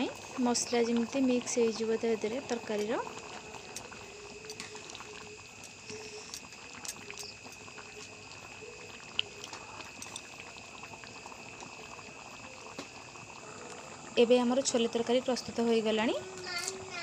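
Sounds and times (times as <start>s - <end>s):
curry bubbling and popping: 0.0s - 17.0s.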